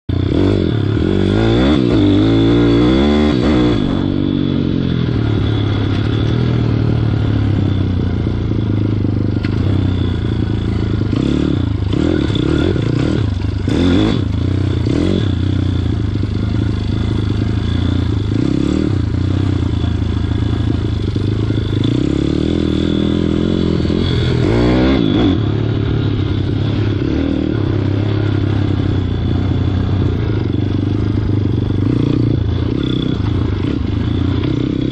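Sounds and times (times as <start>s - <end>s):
motorbike engine revving: 0.1s - 34.9s.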